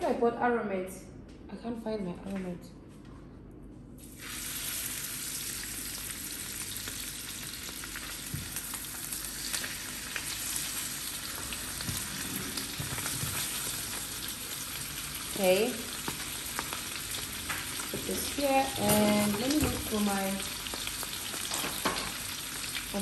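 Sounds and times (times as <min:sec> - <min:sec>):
food sizzling in hot oil: 0:04.0 - 0:23.0.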